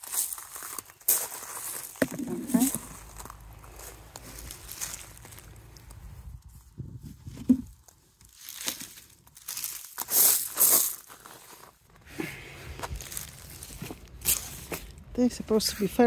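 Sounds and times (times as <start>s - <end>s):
hands rustling through wet compost: 0.0s - 16.0s.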